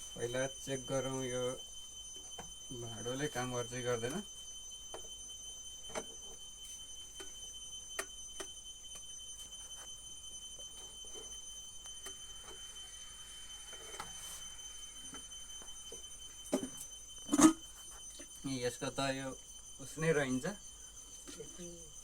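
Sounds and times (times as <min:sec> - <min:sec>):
high-pitched whine: 0:00.0 - 0:22.0.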